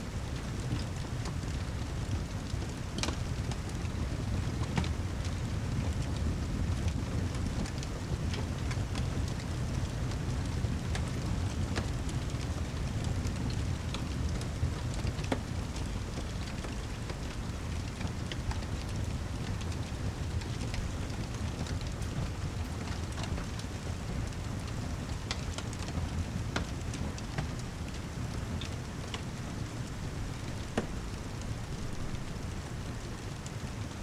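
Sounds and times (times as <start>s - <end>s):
steady rain: 0.0s - 34.0s
fireplace crackles: 0.1s - 34.0s.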